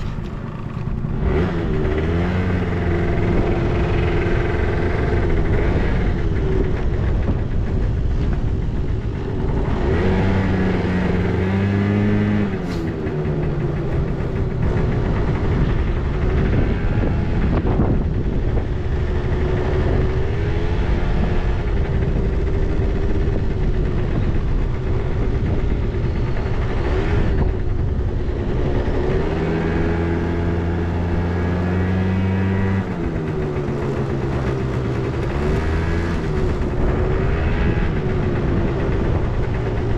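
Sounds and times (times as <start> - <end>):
scooter engine revving: 0.0 - 39.9.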